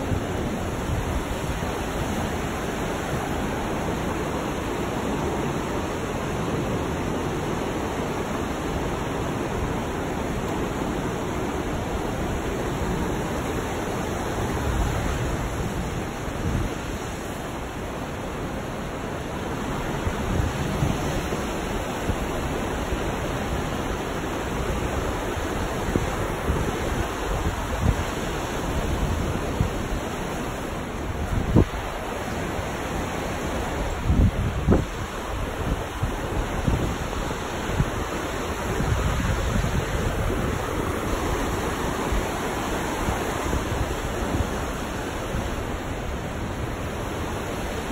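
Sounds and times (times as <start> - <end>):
river rapids rushing: 0.0 - 47.9
wind on microphone: 0.0 - 47.9.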